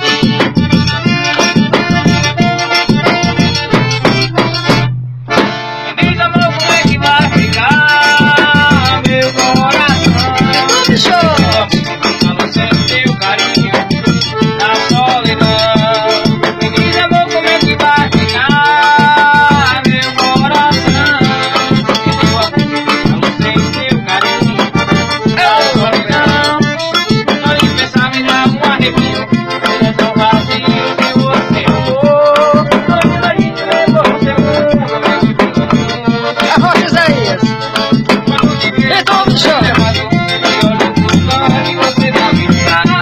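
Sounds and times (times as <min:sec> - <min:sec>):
accordion playing lively melody: 0:00.0 - 0:43.0
drums and percussion: 0:00.0 - 0:43.0.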